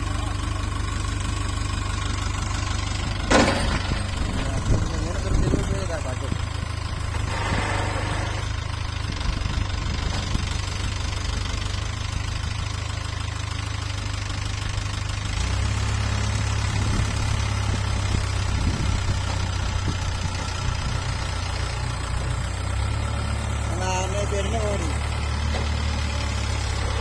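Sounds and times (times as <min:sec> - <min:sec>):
heavy diesel engine droning: 0:00.0 - 0:27.0.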